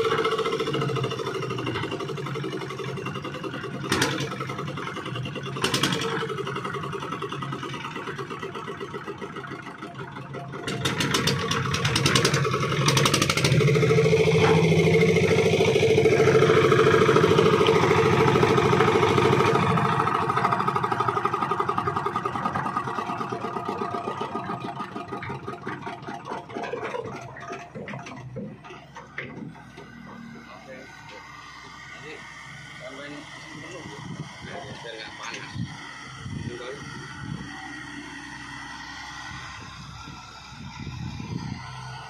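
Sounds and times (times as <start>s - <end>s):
concrete mixer engine running: 0.0s - 42.0s.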